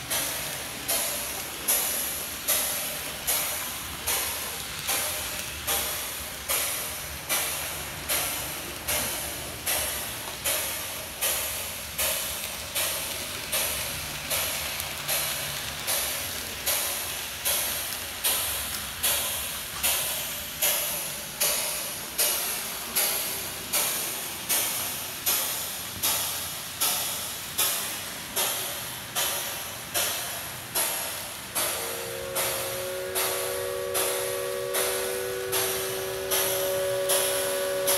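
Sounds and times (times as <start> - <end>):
steam locomotive chuffing: 0.0 - 37.9.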